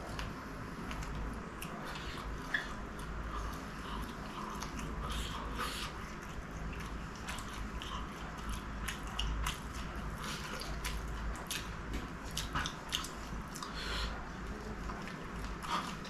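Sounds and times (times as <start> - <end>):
chewing crunchy pastry: 0.0 - 16.0
steady low hum: 0.0 - 16.0.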